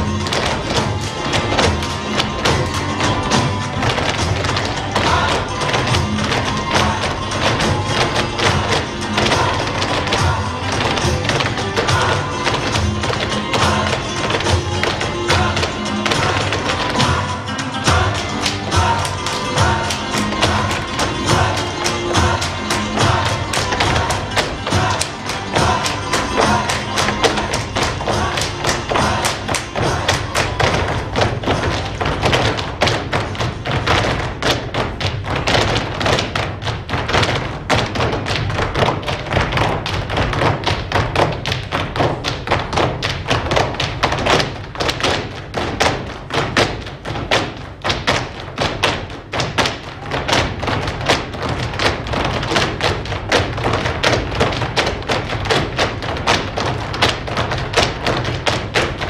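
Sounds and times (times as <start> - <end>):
shoes stamping on stage floor: 0.0 - 59.0.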